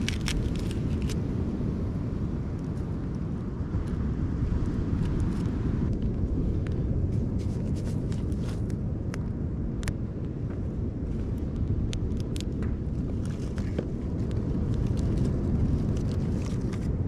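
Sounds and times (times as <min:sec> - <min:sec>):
fire crackling: 0:00.0 - 0:17.0
wind buffeting microphone: 0:00.0 - 0:17.0.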